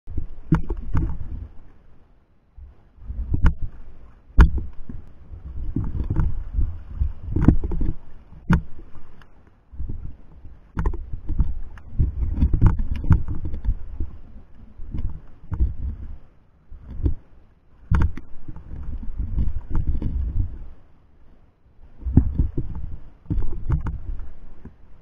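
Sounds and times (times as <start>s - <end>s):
underwater rumbling surges: 0.1s - 1.8s, 2.5s - 20.8s, 21.8s - 25.0s.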